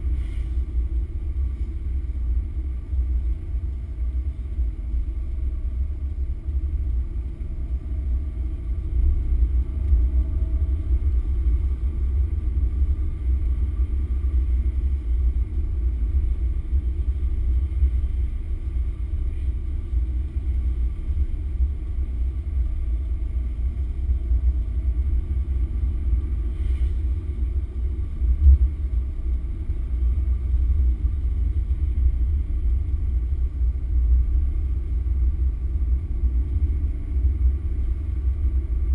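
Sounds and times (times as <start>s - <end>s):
muffled engine and road rumble: 0.0s - 38.9s.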